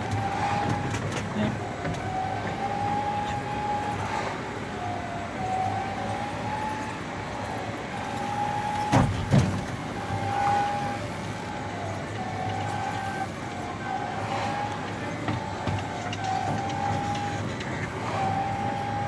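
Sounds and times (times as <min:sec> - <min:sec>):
motor whining: 0:00.0 - 0:19.0.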